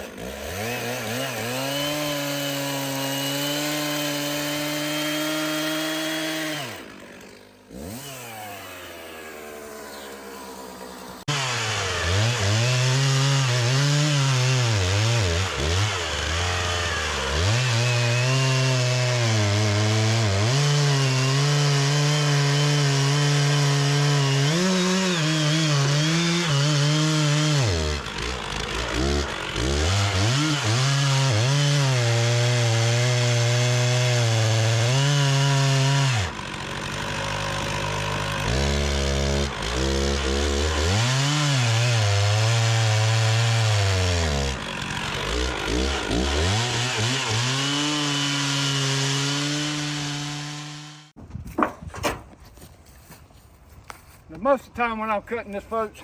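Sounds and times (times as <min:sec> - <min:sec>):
chainsaw cutting log: 0:00.0 - 0:54.5.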